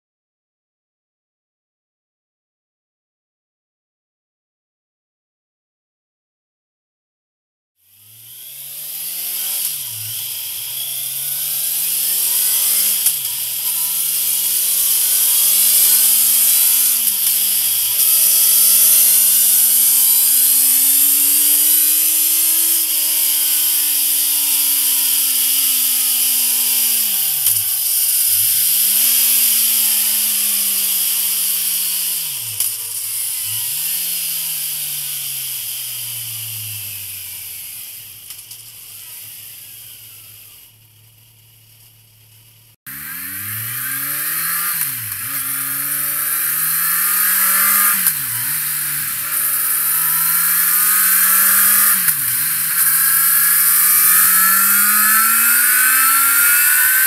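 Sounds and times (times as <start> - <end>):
motorcycle engine revving: 7.8 - 57.0.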